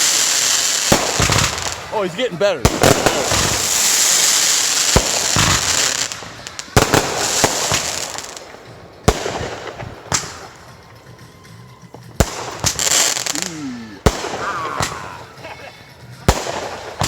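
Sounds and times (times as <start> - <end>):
firework bangs: 0.0 - 15.5, 16.2 - 17.0
fireworks crackling: 0.0 - 17.0.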